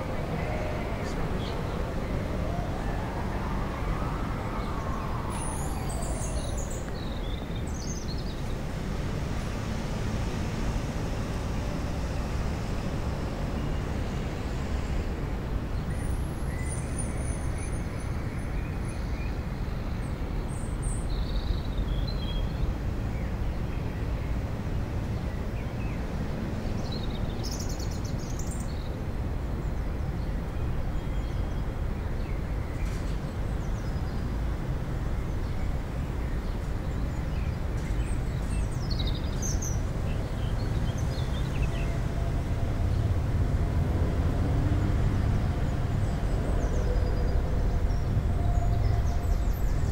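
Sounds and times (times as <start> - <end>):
low rumble of distant traffic: 0.0 - 49.9.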